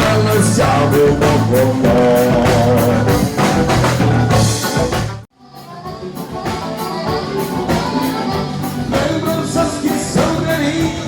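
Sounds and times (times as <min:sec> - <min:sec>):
dance band with guitar and drums: 0:00.0 - 0:11.0.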